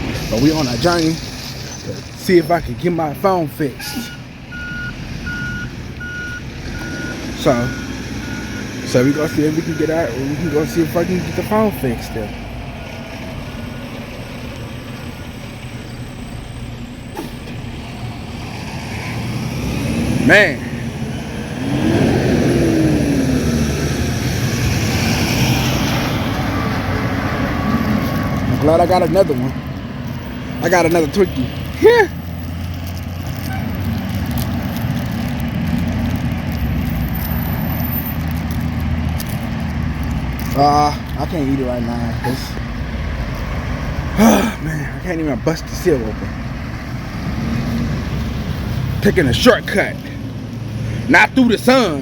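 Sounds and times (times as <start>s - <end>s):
heavy vehicles passing: 0.0s - 52.0s
road traffic rumble: 0.0s - 52.0s.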